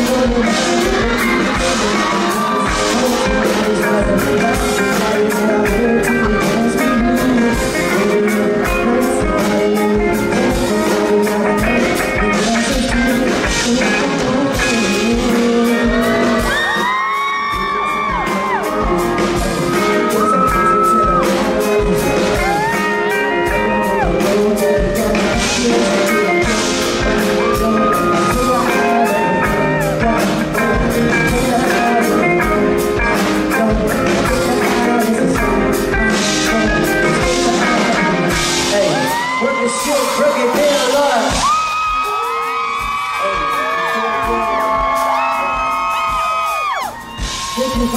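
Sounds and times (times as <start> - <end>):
man singing into microphone: 0.0 - 47.9
pop music with steady beat: 0.0 - 47.9.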